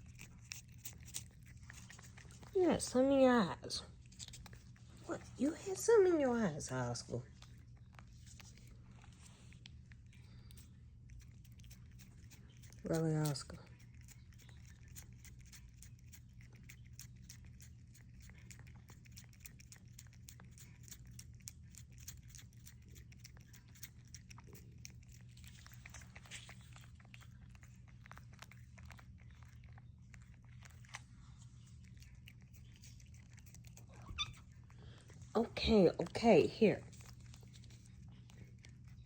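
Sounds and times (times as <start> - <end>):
cats licking and lapping: 0.0 - 39.0
steady low hum: 0.0 - 39.0.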